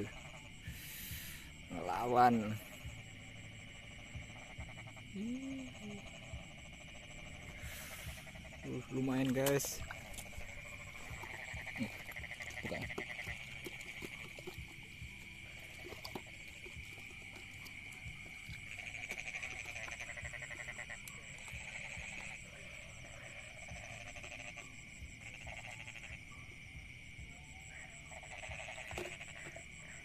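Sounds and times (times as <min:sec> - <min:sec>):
frogs trilling: 0:00.0 - 0:30.0
high-pitched insect trill: 0:00.0 - 0:30.0.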